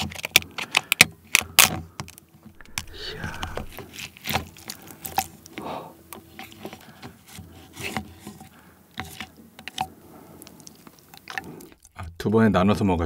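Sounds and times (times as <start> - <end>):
utensils clicking on crab shells: 0.0 - 11.9.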